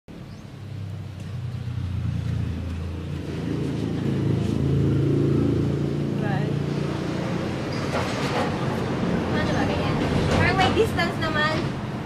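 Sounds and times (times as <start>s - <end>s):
vehicle engine humming: 0.1s - 12.0s.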